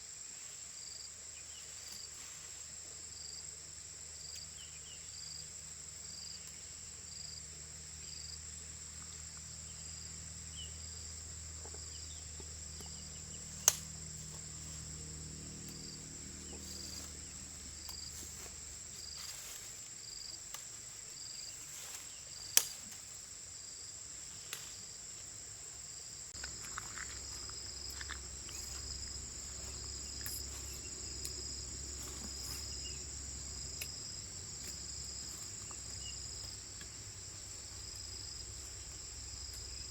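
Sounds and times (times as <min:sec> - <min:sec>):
insects trilling: 0:00.0 - 0:39.9
faint low hum: 0:01.2 - 0:23.0, 0:23.7 - 0:39.9
pulsing insect call: 0:03.0 - 0:24.0, 0:24.6 - 0:39.9.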